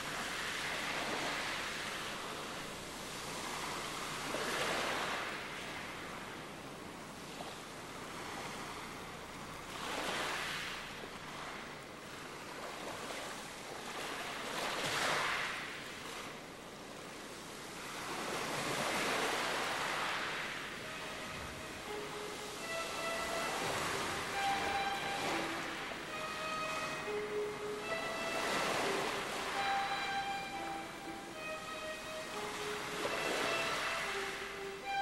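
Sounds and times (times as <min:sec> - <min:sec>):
ocean waves washing in: 0:00.0 - 0:35.0.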